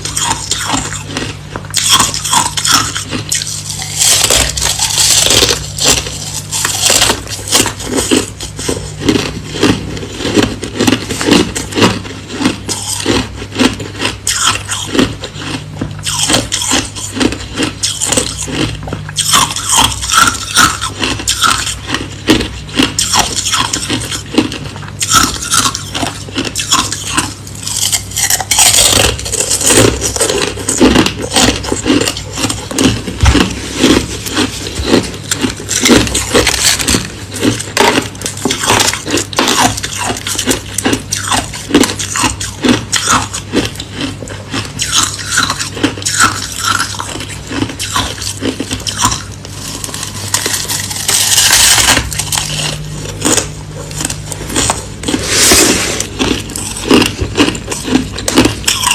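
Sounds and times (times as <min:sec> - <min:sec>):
crushed ice being chewed: 0:00.0 - 0:58.9.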